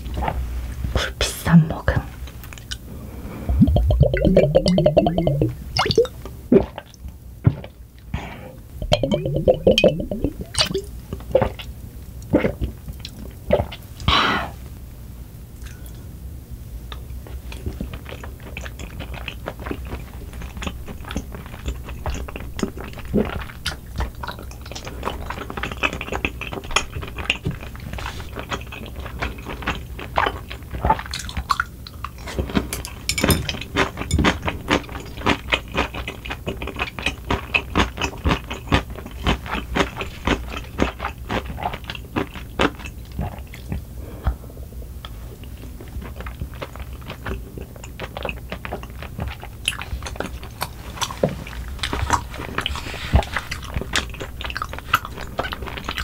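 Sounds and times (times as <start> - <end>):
chewing and wet mouth sounds: 2.3 - 7.0, 8.8 - 14.1, 16.9 - 44.4, 45.0 - 56.0.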